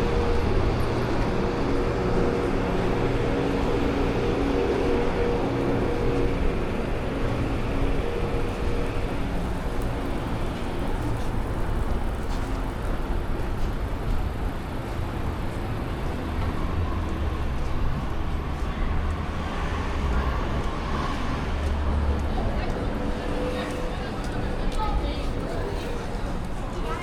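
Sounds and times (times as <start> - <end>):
vehicle engine hum: 0.0 - 26.8
passing cars: 0.0 - 27.0.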